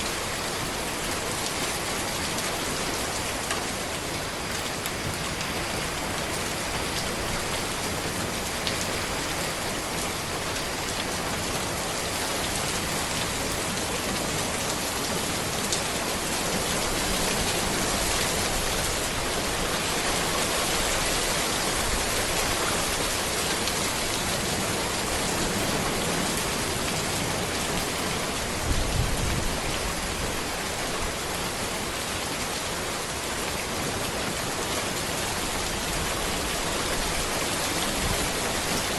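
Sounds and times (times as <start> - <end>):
rain falling on a road: 0.0 - 38.9.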